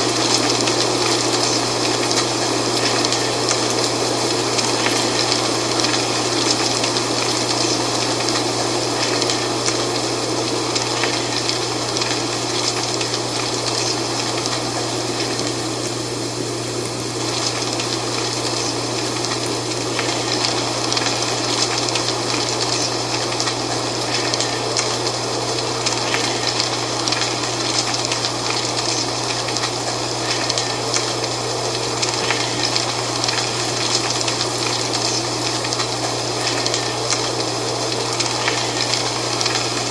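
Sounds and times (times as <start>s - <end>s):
wind rustling dry leaves: 0.0s - 39.9s.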